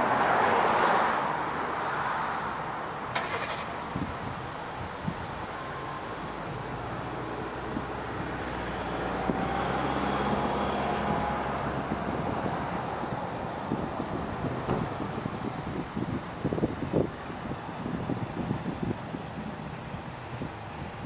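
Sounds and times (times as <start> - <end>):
distant traffic rushing: 0.0 - 21.0
high-pitched insect drone: 3.7 - 21.0.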